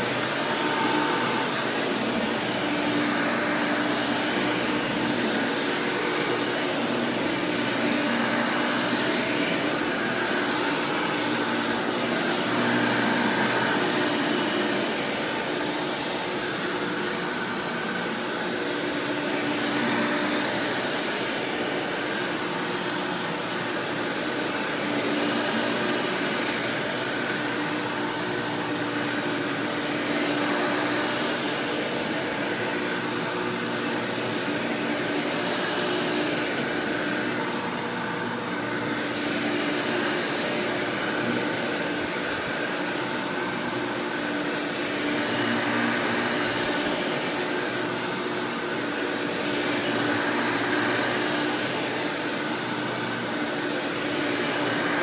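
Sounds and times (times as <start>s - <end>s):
upright vacuum running: 0.0s - 55.0s.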